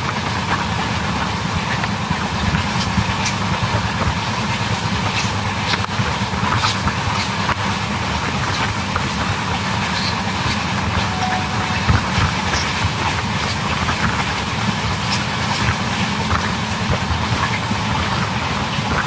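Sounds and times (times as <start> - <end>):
wheel on rail noise: 0.0 - 19.0.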